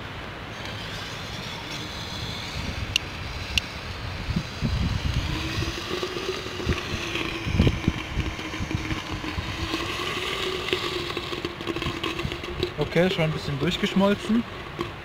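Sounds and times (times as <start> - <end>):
fountain firework hissing: 0.3 - 15.0
wind buffeting microphone: 0.8 - 15.0.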